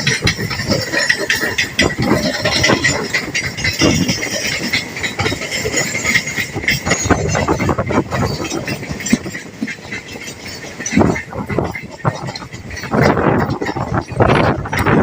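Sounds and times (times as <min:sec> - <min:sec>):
train wheels clattering over rails: 0:00.0 - 0:15.0.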